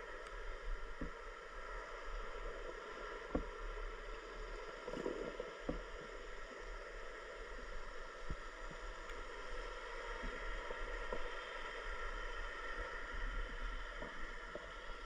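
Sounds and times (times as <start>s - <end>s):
steady watery noise: 0.0s - 15.0s.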